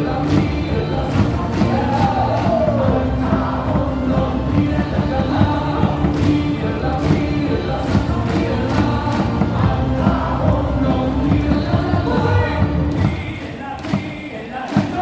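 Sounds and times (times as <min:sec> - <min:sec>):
crowd singing in unison: 0:00.0 - 0:15.0
music with steady beat: 0:00.0 - 0:15.0.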